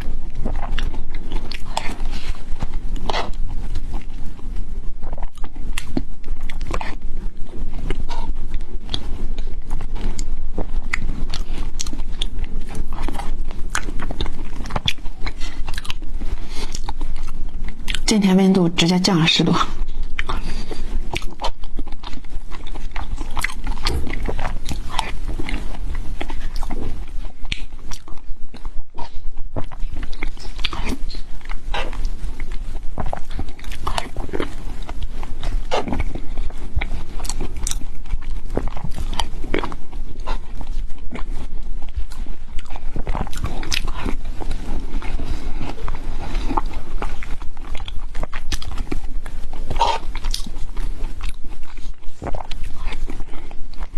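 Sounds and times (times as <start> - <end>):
close chewing and mouth smacks: 0.0 - 53.9.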